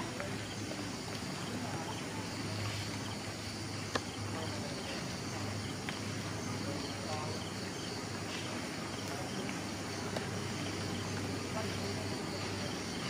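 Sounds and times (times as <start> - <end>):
insects and crickets chirring: 0.0 - 13.0.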